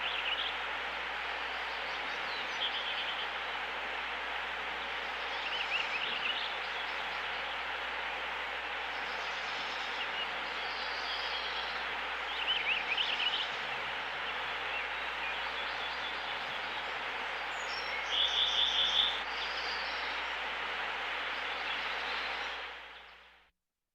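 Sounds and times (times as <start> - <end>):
brook flowing: 0.0 - 23.0.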